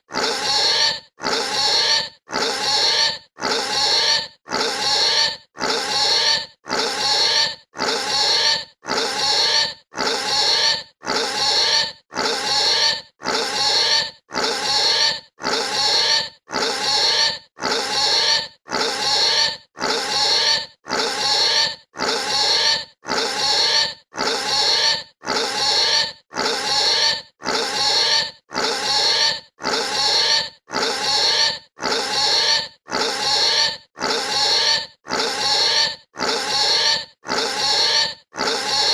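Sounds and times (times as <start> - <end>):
pig squealing: 0.0 - 38.9.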